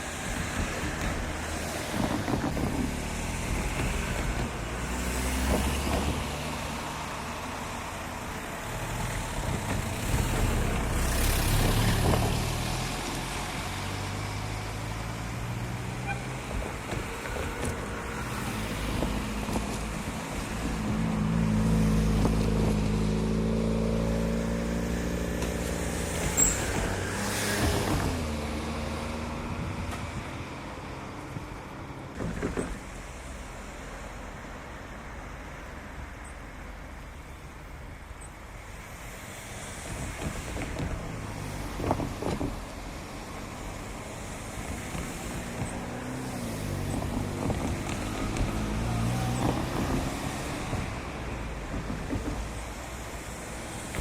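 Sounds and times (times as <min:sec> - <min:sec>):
diesel locomotive engine: 0:00.0 - 0:23.5, 0:25.3 - 0:54.0.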